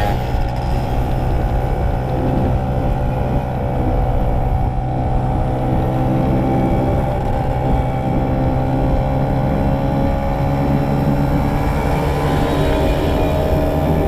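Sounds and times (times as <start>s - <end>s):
two-stroke motorcycle engine running: 0.0s - 14.0s.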